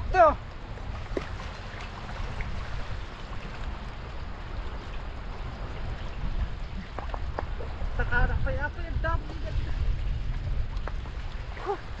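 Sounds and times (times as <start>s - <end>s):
river water running: 0.0s - 12.0s
small water splashes: 0.2s - 8.0s, 9.3s - 12.0s.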